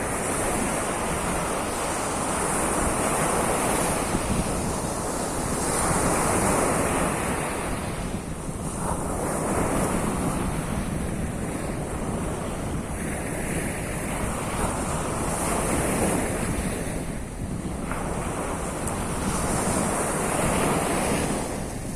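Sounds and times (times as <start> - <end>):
sea waves washing onto shore: 0.0 - 21.9
wind rumbling on microphone: 0.0 - 21.9.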